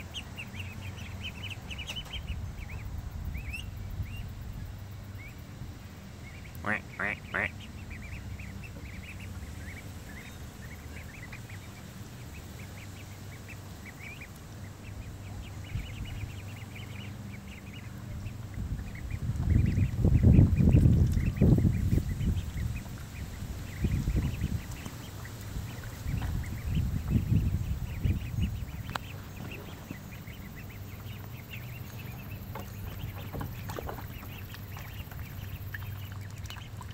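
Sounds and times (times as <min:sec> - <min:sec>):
steady low hum: 0:00.0 - 0:36.9
ducks calling: 0:06.1 - 0:36.9.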